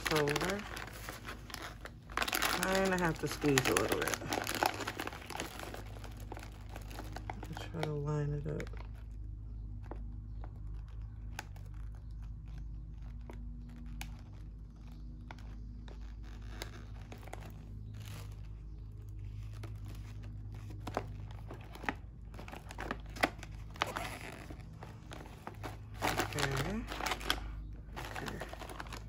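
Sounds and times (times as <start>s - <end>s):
chip bag rustling and crinkling: 0.0s - 29.0s.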